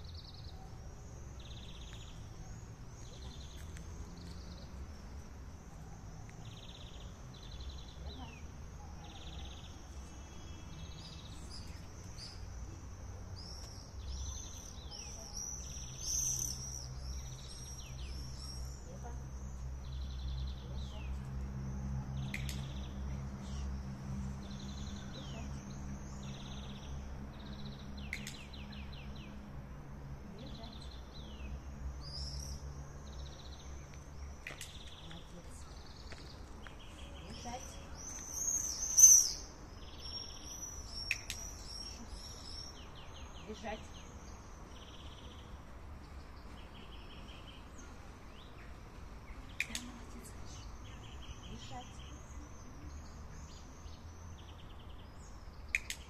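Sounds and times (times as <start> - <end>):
small birds chirping: 0.0 - 56.0
songbird singing: 0.0 - 56.0.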